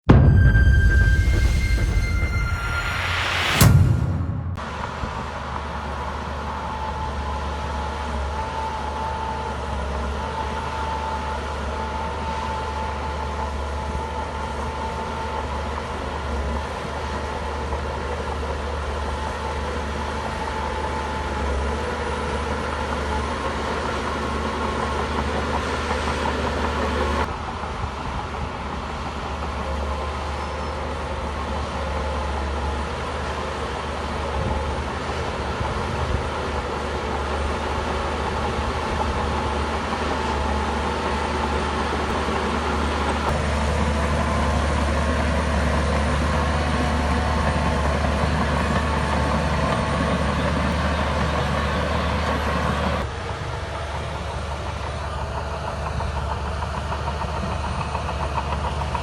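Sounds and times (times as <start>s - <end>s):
bulldozer diesel engine running: 4.4s - 59.0s.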